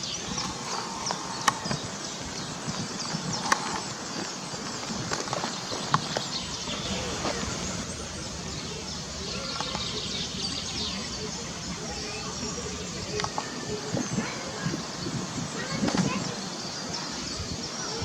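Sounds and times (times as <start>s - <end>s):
outdoor noise: 0.0s - 18.0s
small birds chirping: 0.0s - 18.0s.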